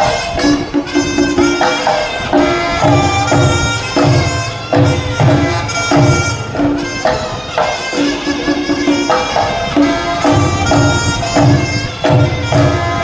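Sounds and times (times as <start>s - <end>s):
low drum strokes: 0.0s - 13.0s
nasal shawm melody: 0.0s - 13.0s.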